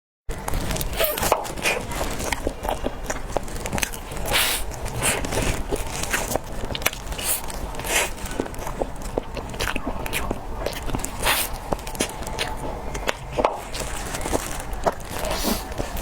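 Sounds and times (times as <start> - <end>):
chewing cake: 0.3 - 16.0.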